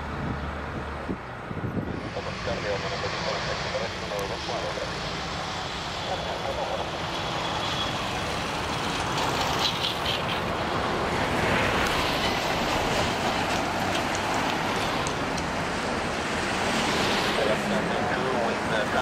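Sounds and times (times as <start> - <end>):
distant jet engines rumbling: 0.0 - 19.0.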